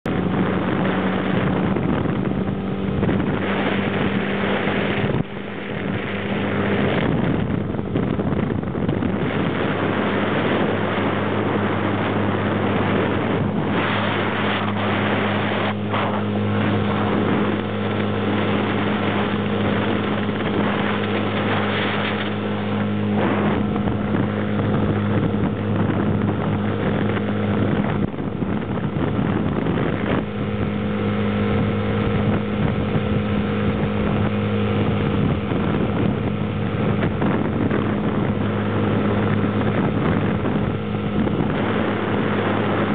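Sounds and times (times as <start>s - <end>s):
motorboat engine humming: 0.0s - 42.9s
rushing water: 0.0s - 42.9s
wind buffeting microphone: 0.0s - 42.9s.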